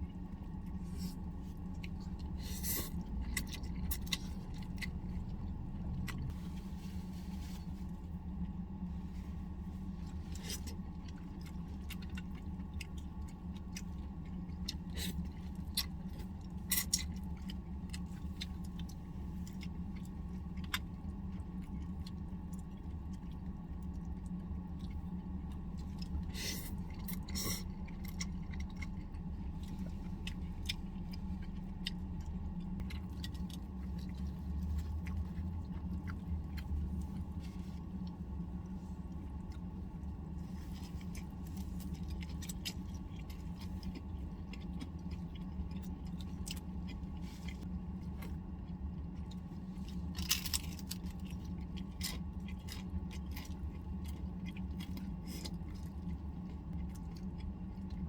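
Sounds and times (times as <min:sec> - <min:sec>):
steady low hum: 0:00.0 - 0:58.0
person chewing: 0:00.1 - 0:06.7, 0:09.4 - 0:58.0.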